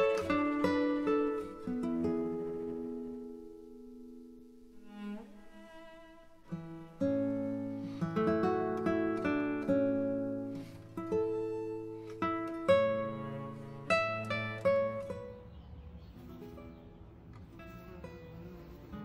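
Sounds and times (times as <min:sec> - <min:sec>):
plucked guitar-like melody: 0:00.0 - 0:15.5, 0:16.1 - 0:19.0.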